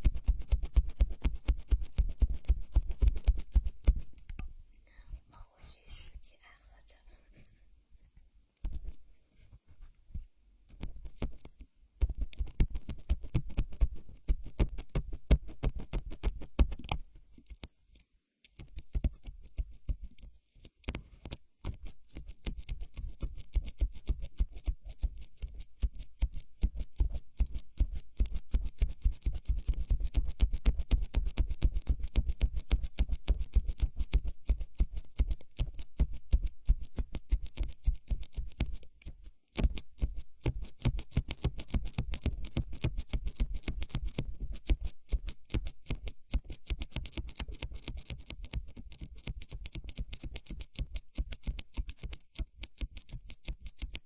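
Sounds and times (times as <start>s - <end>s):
fast tapping and scratching: 0.0s - 4.2s, 8.6s - 9.1s, 10.7s - 17.6s, 18.6s - 54.0s.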